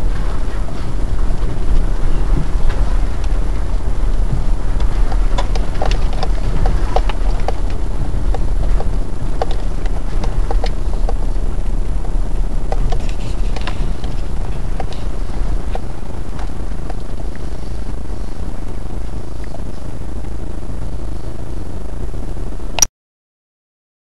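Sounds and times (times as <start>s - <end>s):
engine and tyre rumble: 0.0s - 22.8s.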